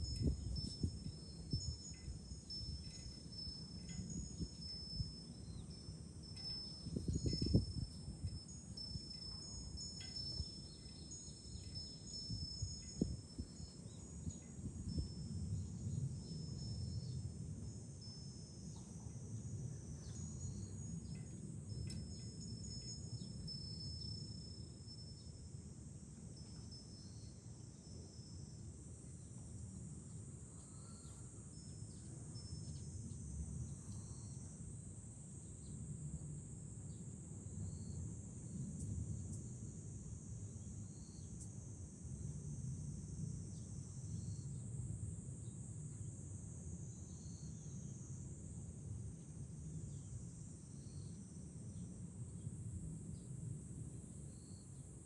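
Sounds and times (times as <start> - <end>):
wind rumble on microphone: 0.0 - 54.2
cicadas buzzing: 0.0 - 55.0.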